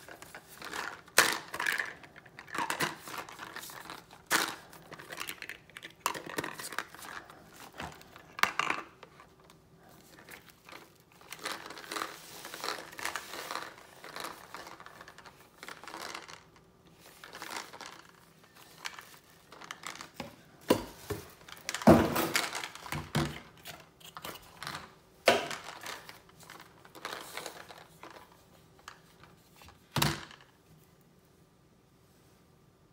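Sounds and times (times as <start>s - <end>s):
plastic rustling and crinkling: 0.0s - 30.6s.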